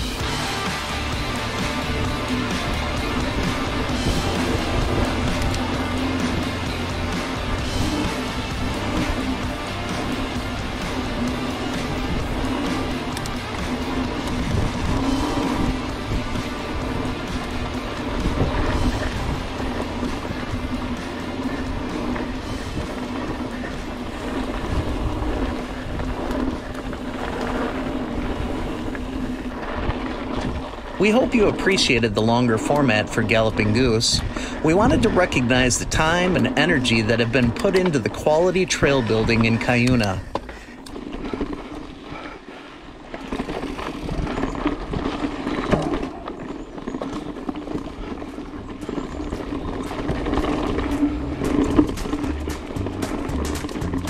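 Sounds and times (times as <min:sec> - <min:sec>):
bike rattling over bumps: 0:00.0 - 0:54.0
bike tyres on packed dirt: 0:00.0 - 0:54.0
wind rumble on microphone: 0:00.0 - 0:54.0.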